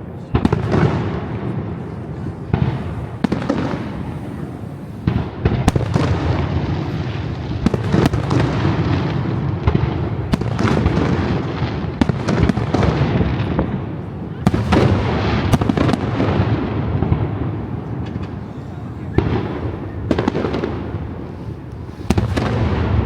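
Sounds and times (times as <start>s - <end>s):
fireworks sharp bangs: 0.0s - 23.0s.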